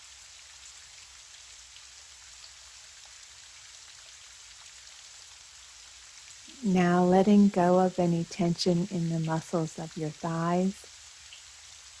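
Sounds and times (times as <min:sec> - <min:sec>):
gentle rain hissing: 0:00.0 - 0:12.0.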